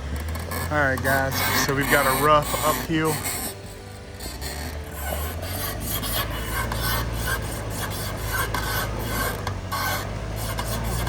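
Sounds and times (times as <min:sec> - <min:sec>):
tyres crunching over snow and ice: 0:00.0 - 0:11.0
vehicle engine humming: 0:00.0 - 0:11.0.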